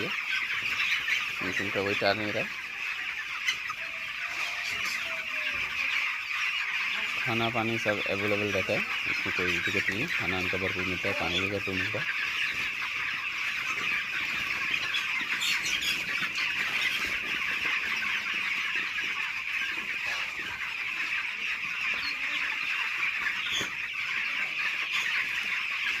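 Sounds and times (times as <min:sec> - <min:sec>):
chicks peeping and chirping: 0:00.0 - 0:26.0.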